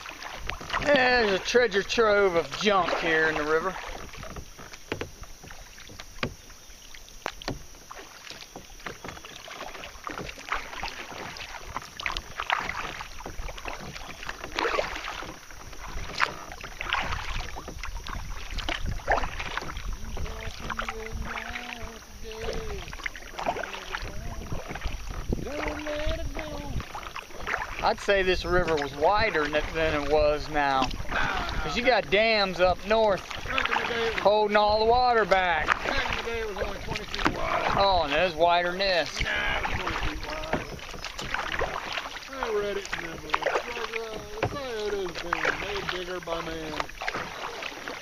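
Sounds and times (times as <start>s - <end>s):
water dripping off blades: 0.0s - 6.5s, 7.2s - 48.0s
kayak paddles splashing: 0.0s - 48.0s.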